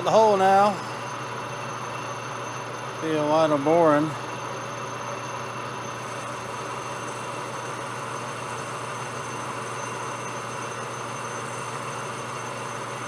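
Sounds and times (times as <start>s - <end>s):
metal lathe boring brass: 0.0s - 13.0s.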